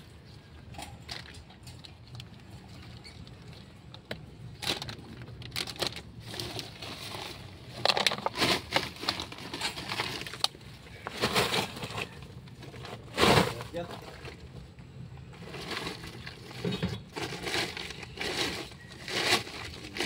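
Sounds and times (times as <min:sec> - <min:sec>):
rustling and scraping of bones: 0:00.0 - 0:20.0.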